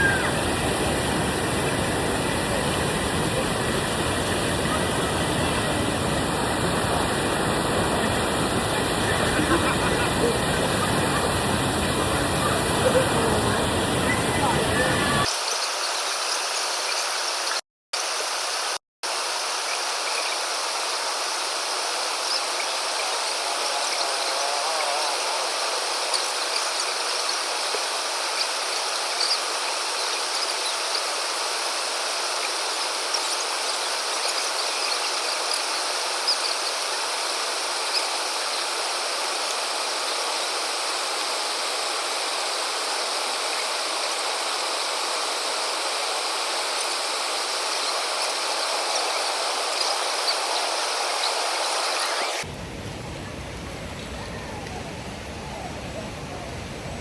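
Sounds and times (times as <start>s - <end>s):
insects chirping: 0.0s - 52.5s
flowing river water: 0.0s - 57.0s.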